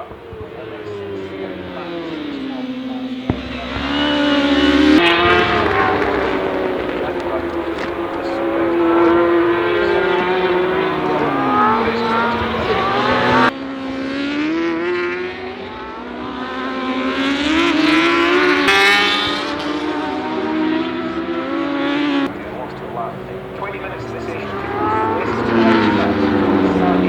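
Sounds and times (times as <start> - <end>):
racing motorbike engines revving: 0.0 - 27.0.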